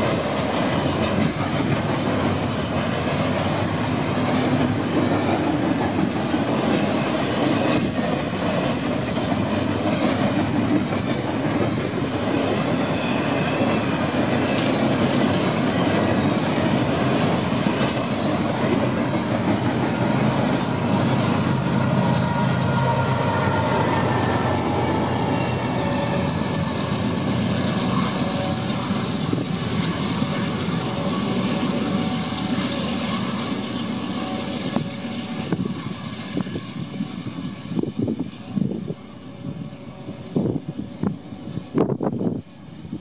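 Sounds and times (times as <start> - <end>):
diesel locomotive engine drone: 0.0 - 43.0
train wheels rumbling on rail: 0.0 - 43.0.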